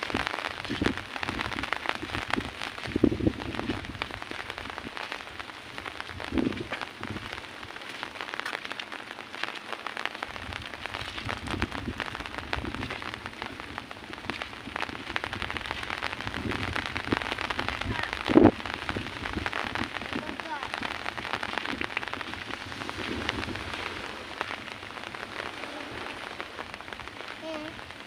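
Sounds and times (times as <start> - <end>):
rain falling steadily: 0.0 - 28.0.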